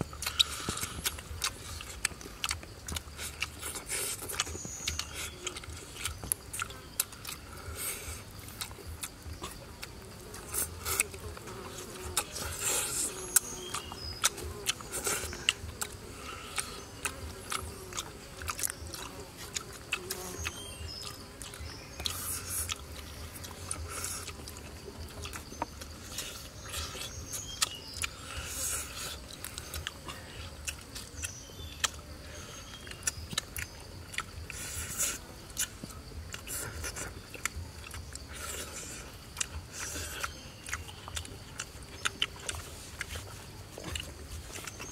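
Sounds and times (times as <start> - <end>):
chewing: 0.0 - 44.9
crunching: 0.0 - 44.9
mouth clicks: 0.1 - 44.9.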